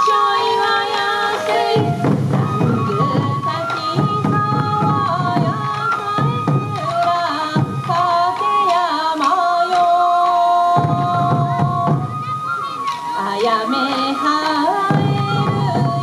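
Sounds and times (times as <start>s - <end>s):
taiko drums beating: 0.8s - 9.8s, 10.6s - 16.0s.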